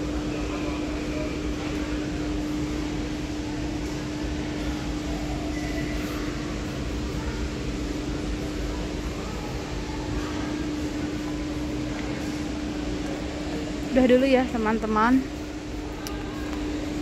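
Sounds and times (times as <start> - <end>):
ventilation hum: 0.0 - 17.0.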